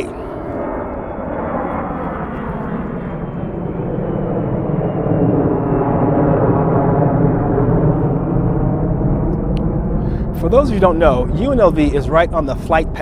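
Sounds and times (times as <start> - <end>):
airliner flying overhead: 0.0 - 13.0
high engine whine: 0.0 - 13.0.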